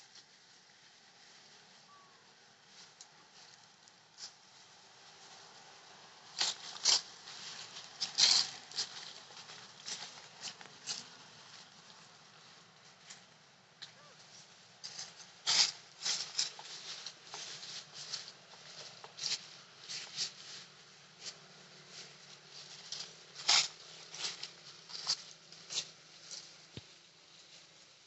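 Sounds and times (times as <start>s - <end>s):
rustling and crackling: 0.0s - 28.0s.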